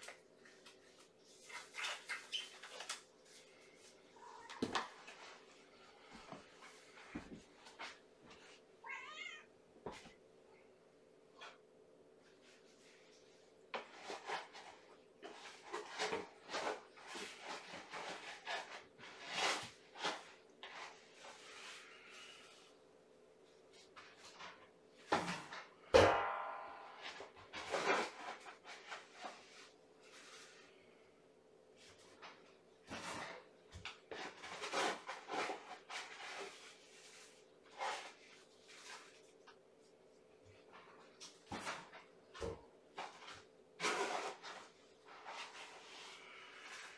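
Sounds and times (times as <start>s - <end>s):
cat litter being scooped: 0.0s - 10.2s, 12.2s - 22.8s, 26.8s - 31.1s, 31.8s - 46.9s.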